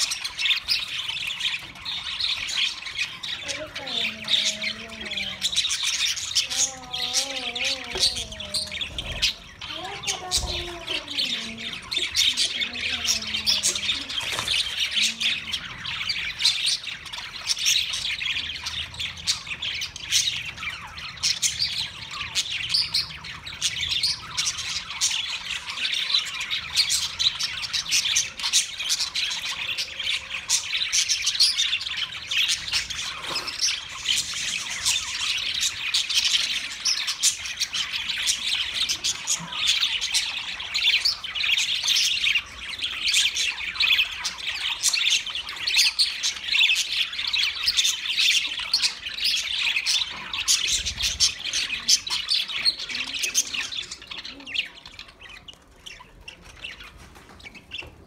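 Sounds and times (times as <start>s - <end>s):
budgerigars chattering: 0.0s - 58.0s.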